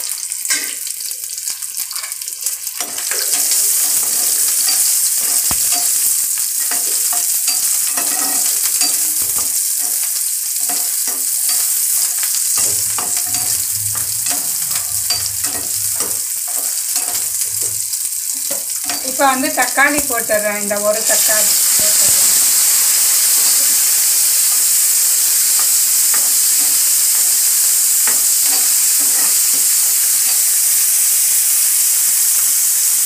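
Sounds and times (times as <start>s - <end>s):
shallots sizzling in oil: 0.0s - 33.0s
spoon scraping a pan: 1.8s - 19.3s, 21.1s - 30.8s.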